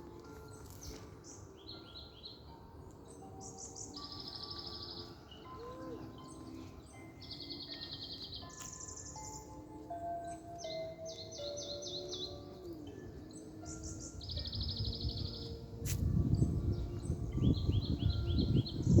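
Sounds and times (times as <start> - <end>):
birds trilling and chirping: 0.0 - 19.0
soft music held notes: 0.0 - 19.0.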